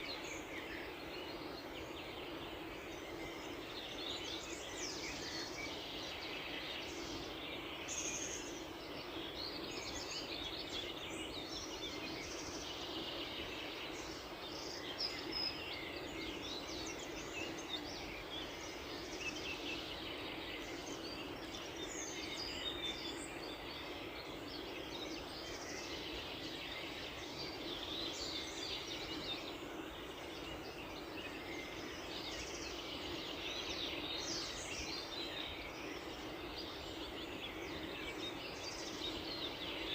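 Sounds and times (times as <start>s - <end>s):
small birds chirping and trilling: 0.0s - 39.9s
steady background hiss: 0.0s - 39.9s.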